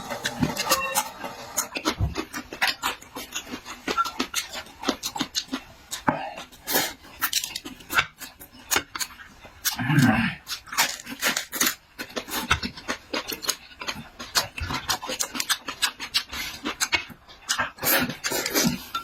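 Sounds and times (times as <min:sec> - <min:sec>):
person chewing and smacking food: 0:00.0 - 0:19.0.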